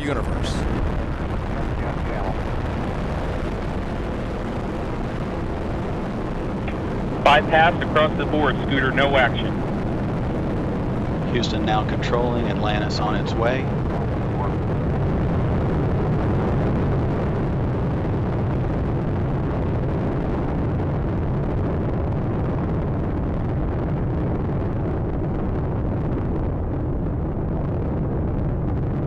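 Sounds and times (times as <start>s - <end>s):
rocket engines rumbling: 0.0s - 29.0s.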